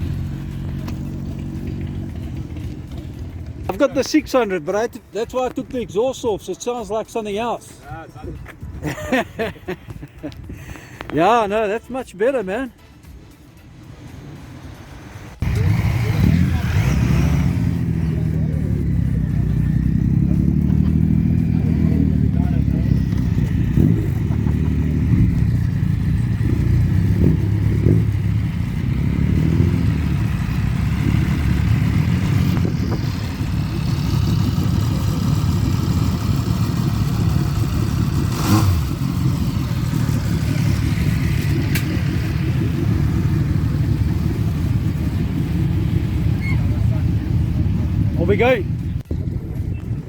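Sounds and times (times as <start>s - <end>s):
motorcycle engines rumbling: 0.0s - 50.0s.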